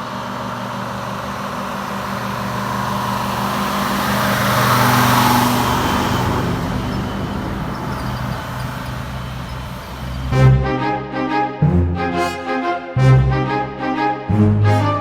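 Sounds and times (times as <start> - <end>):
truck diesel engine driving past: 0.2 - 15.0.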